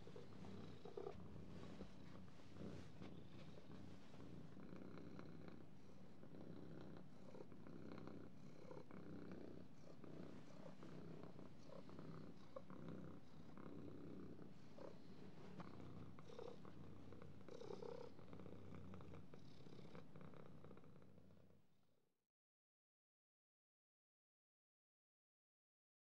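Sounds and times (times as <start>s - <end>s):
cat purring: 0.0s - 21.7s.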